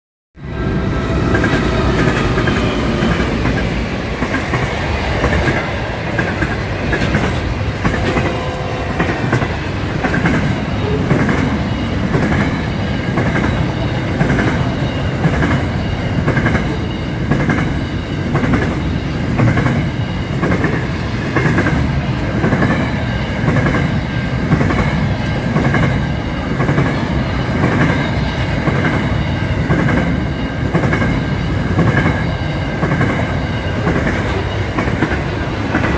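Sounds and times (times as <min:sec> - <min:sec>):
freight wagons rumbling over rail joints: 0:00.8 - 0:35.9.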